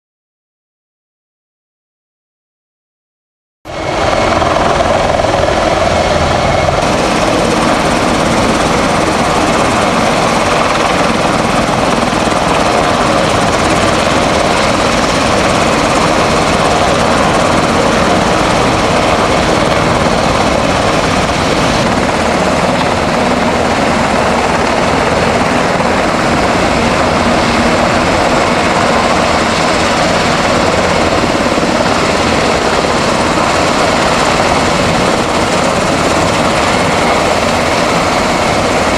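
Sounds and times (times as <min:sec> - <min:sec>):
helicopter rotor and engine: 0:03.7 - 0:38.9.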